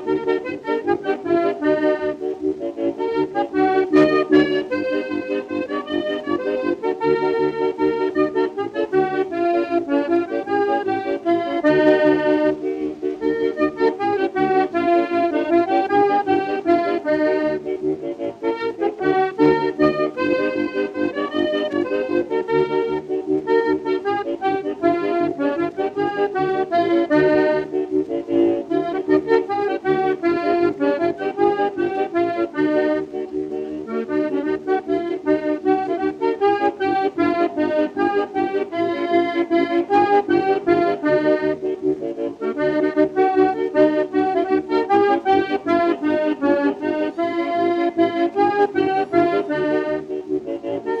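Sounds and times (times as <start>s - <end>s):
lively accordion music: 0.0s - 51.0s.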